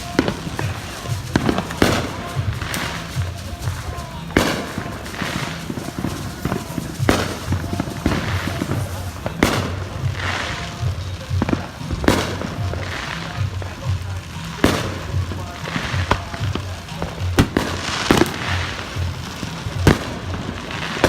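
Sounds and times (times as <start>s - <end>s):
fireworks banging and crackling: 0.0s - 21.0s
music with pulsing bass: 0.0s - 21.0s
small firework pops: 0.0s - 21.0s
voices: 0.0s - 21.0s.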